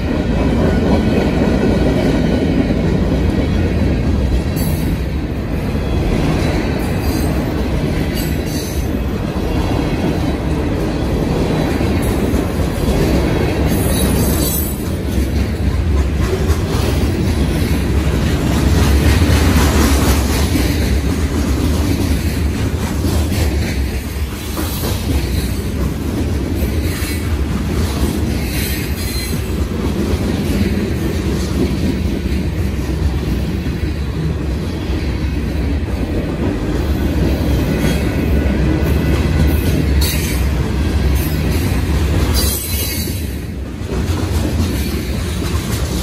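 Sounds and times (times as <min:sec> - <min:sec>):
train wheels on track: 0:00.0 - 0:46.0.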